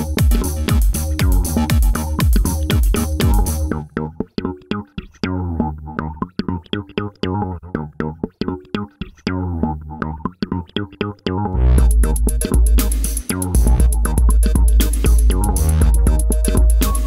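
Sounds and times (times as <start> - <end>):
bass and guitar music with beat: 0.0 - 17.0.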